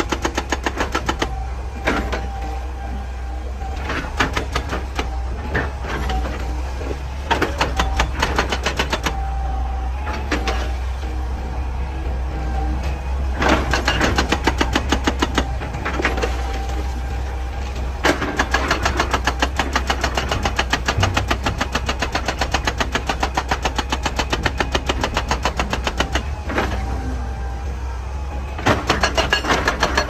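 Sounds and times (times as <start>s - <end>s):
diesel engine drone: 0.0s - 30.0s
hydraulic breaker hammering rock: 0.0s - 30.0s.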